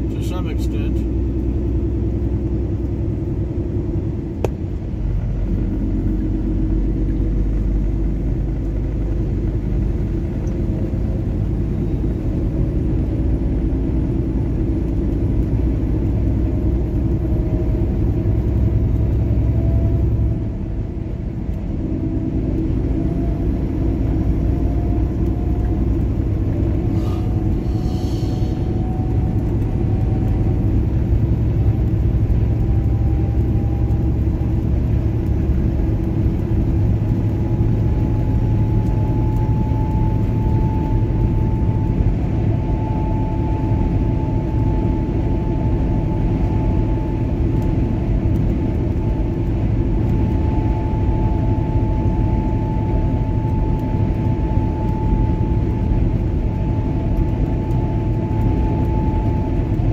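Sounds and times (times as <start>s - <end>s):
tyre and engine drone: 0.0s - 59.9s
faint steady hum: 9.2s - 59.9s.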